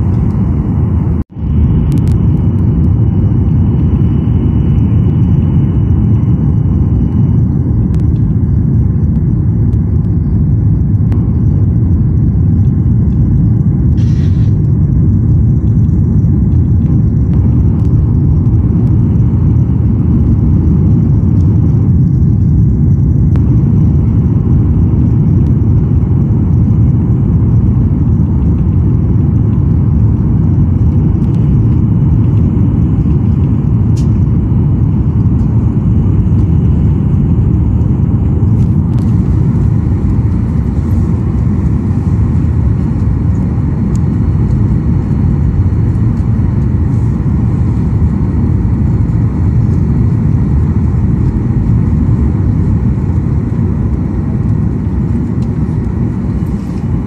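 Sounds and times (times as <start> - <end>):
jet engines and rushing air: 0.0 - 57.0.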